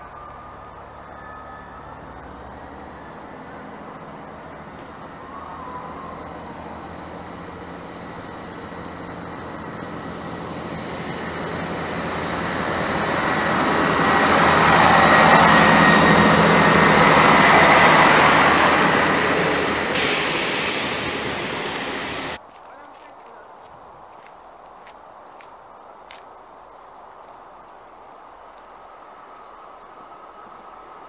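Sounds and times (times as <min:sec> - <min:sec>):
train passing: 0:00.0 - 0:31.0.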